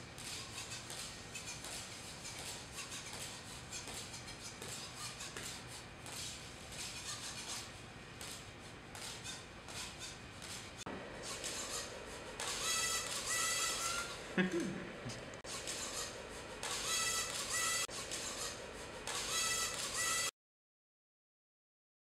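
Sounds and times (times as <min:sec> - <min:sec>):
small motor whir: 0:00.0 - 0:14.2, 0:15.5 - 0:20.3.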